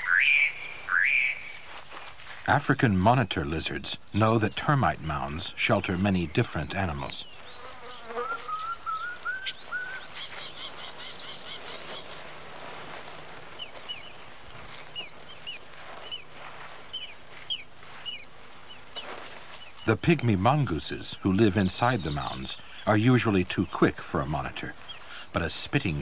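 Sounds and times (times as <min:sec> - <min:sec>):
faint outdoor hiss: 0:00.0 - 0:26.0
wild birds calling: 0:00.0 - 0:26.0.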